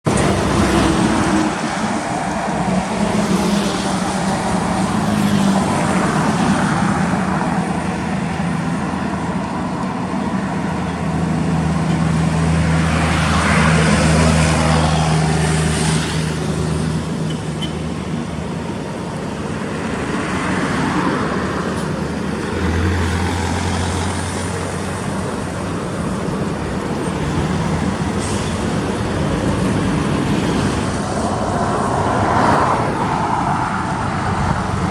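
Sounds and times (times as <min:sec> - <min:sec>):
diesel trucks passing: 0:00.0 - 0:34.9.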